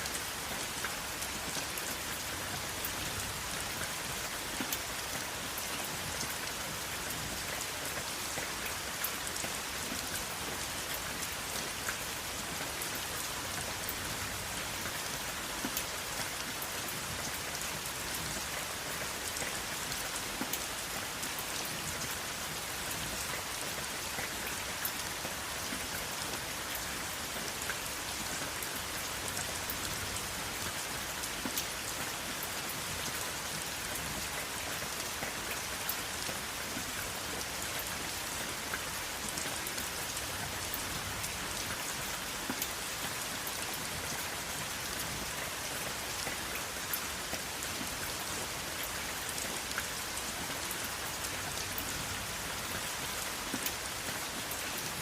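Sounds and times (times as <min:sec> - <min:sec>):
raindrops ticking on a surface: 0:00.0 - 0:55.0
steady rain: 0:00.0 - 0:55.0.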